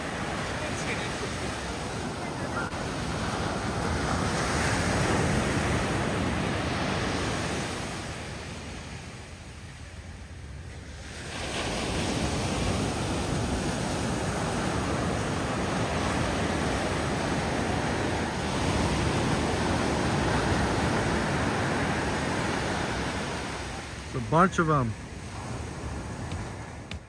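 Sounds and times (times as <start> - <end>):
ocean surf washing on shore: 0.0 - 27.0.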